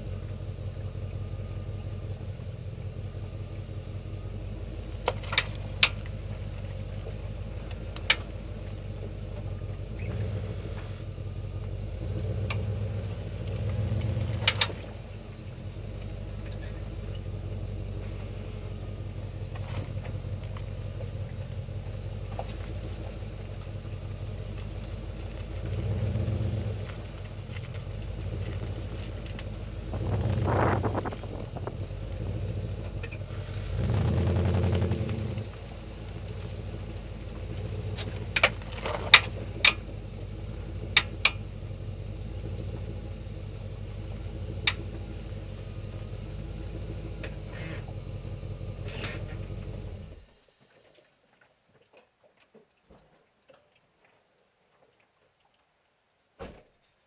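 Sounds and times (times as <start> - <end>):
car engine idling: 0.0 - 50.4.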